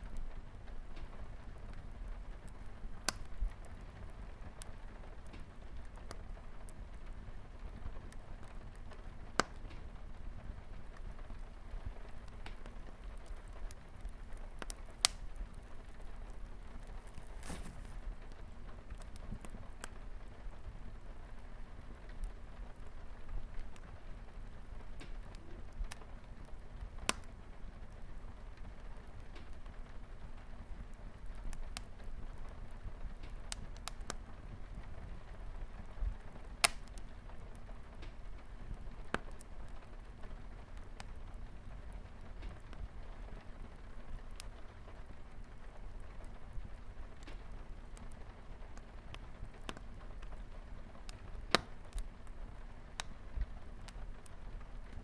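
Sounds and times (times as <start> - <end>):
light rain on a window: 0.0 - 55.0
wood fire crackling and popping: 0.0 - 55.0.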